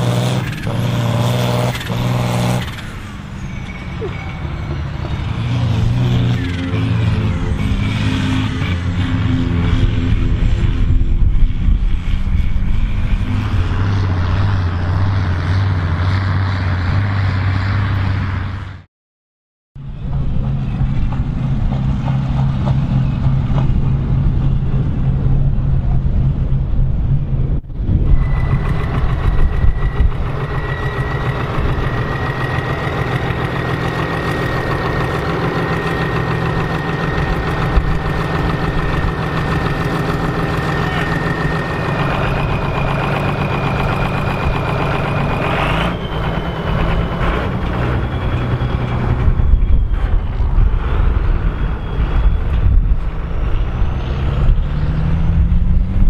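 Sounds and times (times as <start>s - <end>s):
tractor diesel engine running: 0.0s - 18.8s, 19.8s - 56.0s.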